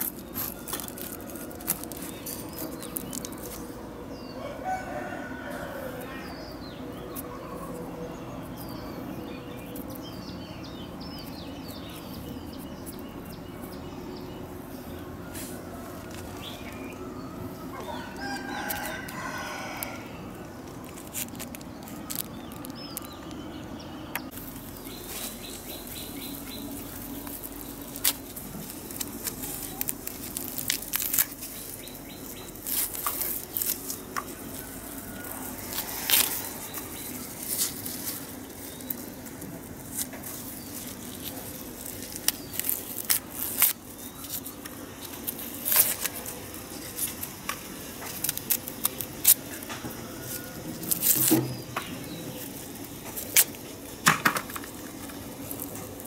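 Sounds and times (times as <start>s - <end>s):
onion skin crackling: 0.0s - 56.0s.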